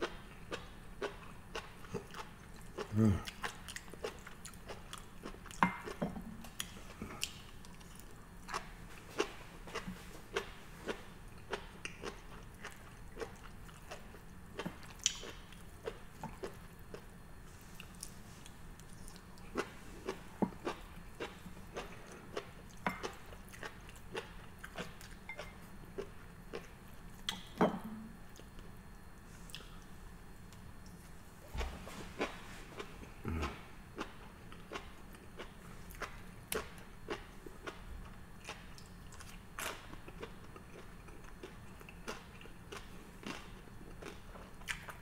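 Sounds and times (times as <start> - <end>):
person chewing wet clicks: 0.0 - 17.1, 18.8 - 27.6, 32.2 - 45.0.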